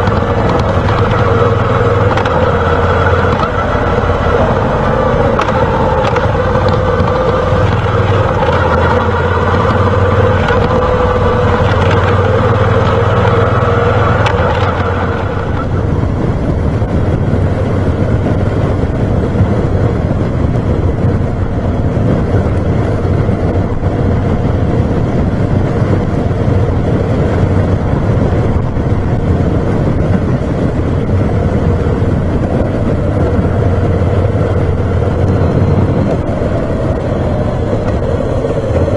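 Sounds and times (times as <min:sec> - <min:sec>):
motorcycle engine running: 0:00.0 - 0:38.9
road noise: 0:00.0 - 0:38.9
wind: 0:00.0 - 0:38.9.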